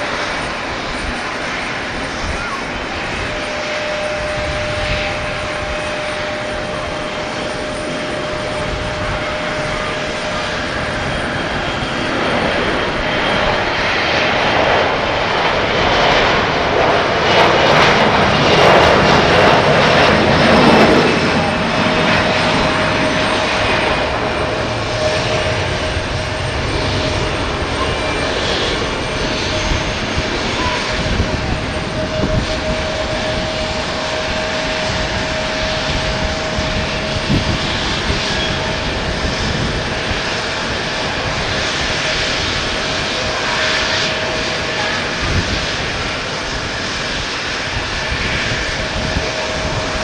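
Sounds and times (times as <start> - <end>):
jet engine roar with whine: 0.0 - 50.0.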